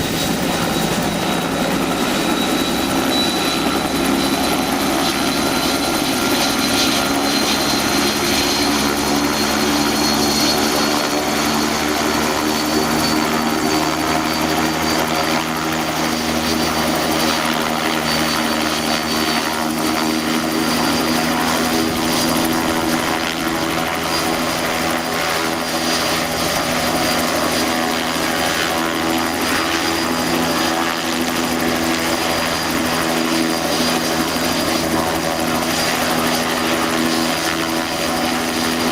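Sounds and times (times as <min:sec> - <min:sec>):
helicopter engines and rotor running: 0:00.0 - 0:38.9.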